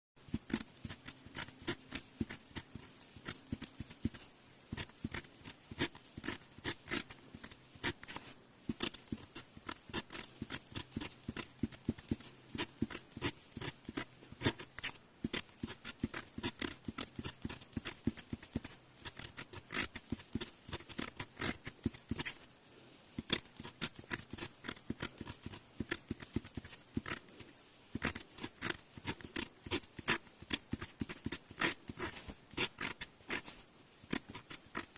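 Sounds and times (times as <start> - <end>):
pen nib scratching on paper: 0.2 - 22.5, 23.2 - 34.9.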